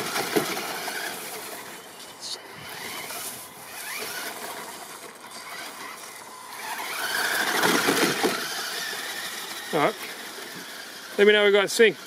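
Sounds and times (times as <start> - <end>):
rc car motor whining: 0.0 - 12.0
tyres on gravel: 0.0 - 12.0.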